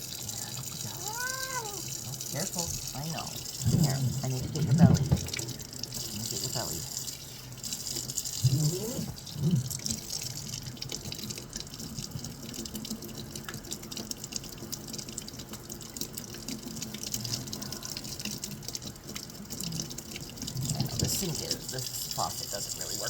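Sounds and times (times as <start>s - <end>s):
water running from a faucet: 0.0s - 23.0s.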